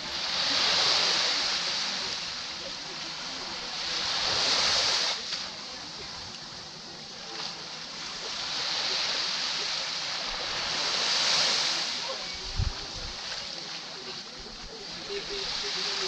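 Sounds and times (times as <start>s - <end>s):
small sea waves breaking on sand: 0.0s - 16.0s.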